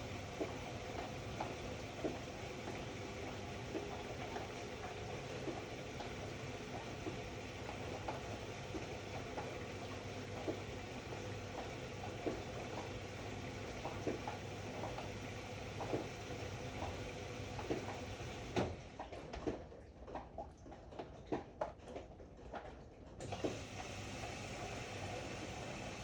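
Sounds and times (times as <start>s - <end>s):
washer-dryer humming: 0.0s - 20.2s, 22.4s - 26.0s.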